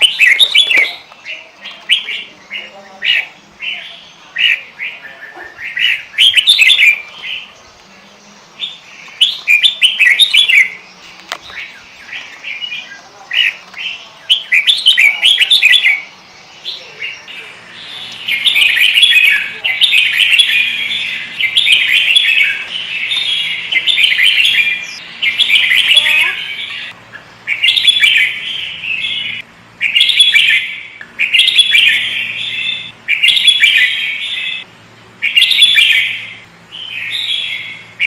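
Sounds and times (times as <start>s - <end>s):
bird singing chirpy phrases: 0.0s - 38.0s.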